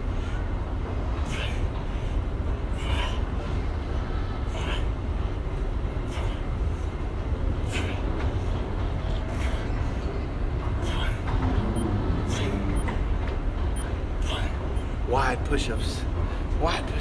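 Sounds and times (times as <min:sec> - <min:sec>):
airport terminal rumble: 0:00.0 - 0:17.0.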